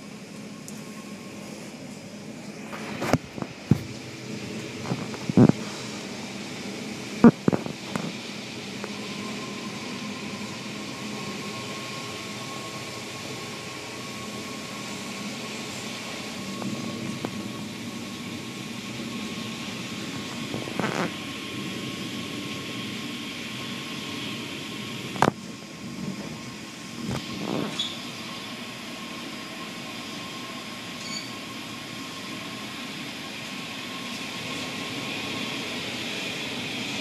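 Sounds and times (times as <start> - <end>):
car wash machinery whirring: 0.0 - 37.0
thin steady whine: 0.0 - 37.0.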